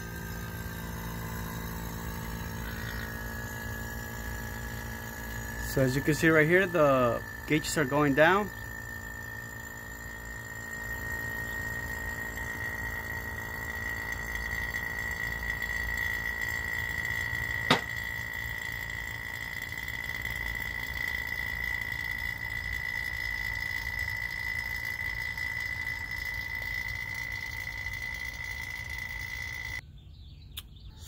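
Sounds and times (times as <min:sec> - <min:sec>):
vacuum pump running: 0:00.0 - 0:29.8.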